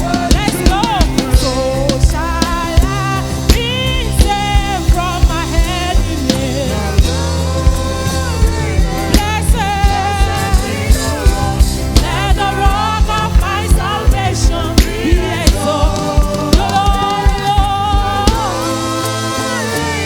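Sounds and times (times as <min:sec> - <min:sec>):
bass line: 0:00.0 - 0:20.0
drum kit beat: 0:00.0 - 0:20.0
person singing: 0:00.0 - 0:20.0.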